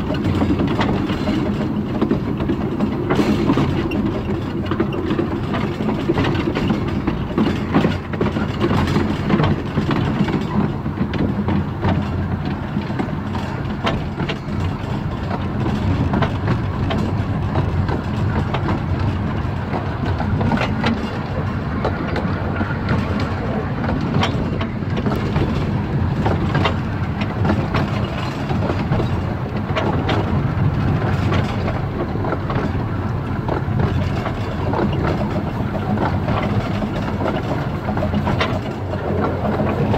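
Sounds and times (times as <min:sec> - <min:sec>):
steam locomotive running rumble: 0:00.0 - 0:39.9
wheel clicks on track: 0:00.0 - 0:39.9.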